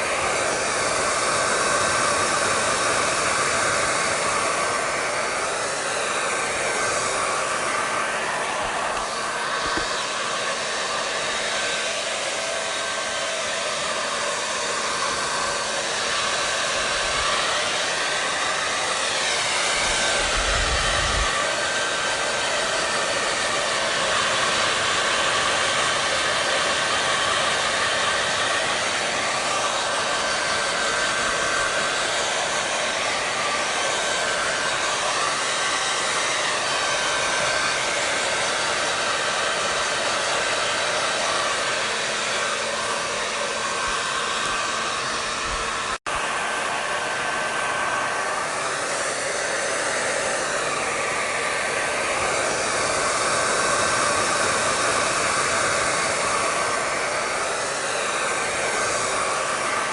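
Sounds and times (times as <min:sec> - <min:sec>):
blow dryer running: 0:00.0 - 0:59.9.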